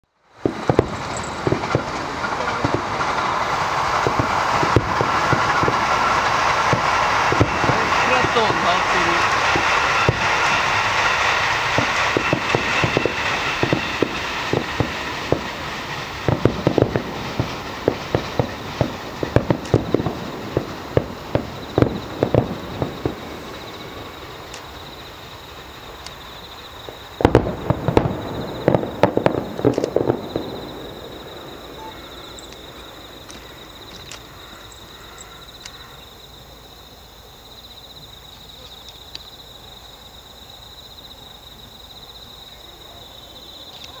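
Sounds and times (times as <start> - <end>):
fireworks bursting: 0.0 - 44.0.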